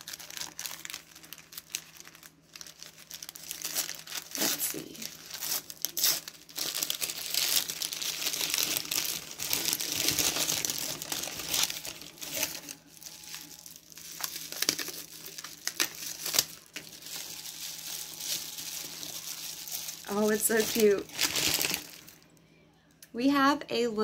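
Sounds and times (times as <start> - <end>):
plastic wrapping crinkling: 0.0 - 22.4.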